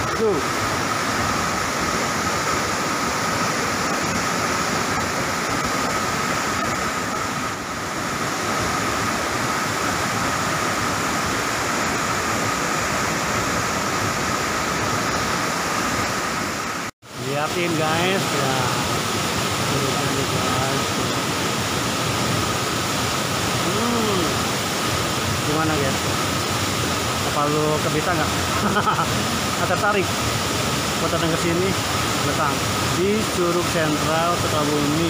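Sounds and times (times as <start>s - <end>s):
waterfall roaring onto rocks: 0.0s - 35.0s.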